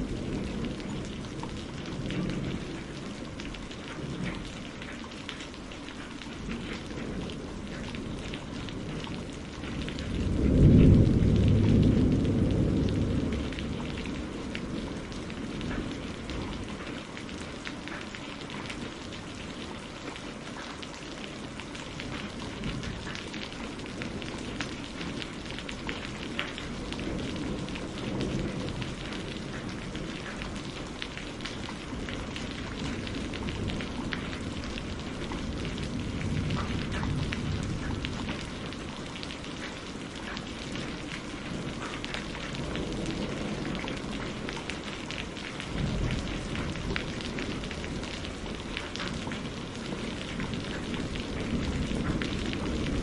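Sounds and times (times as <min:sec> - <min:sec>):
thunder rumbling: 0:00.0 - 0:05.2, 0:06.3 - 0:20.2, 0:21.1 - 0:53.0
rain on a greenhouse: 0:00.0 - 0:53.0.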